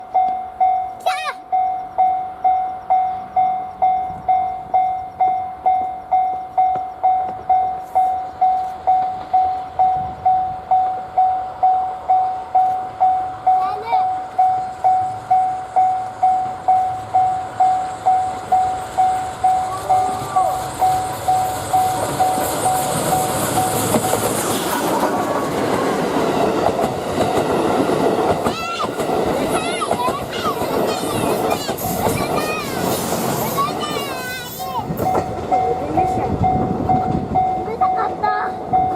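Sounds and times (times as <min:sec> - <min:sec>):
level-crossing bell clanging: 0:00.0 - 0:25.5, 0:26.4 - 0:38.9
train wheels clattering on rails: 0:00.0 - 0:38.9.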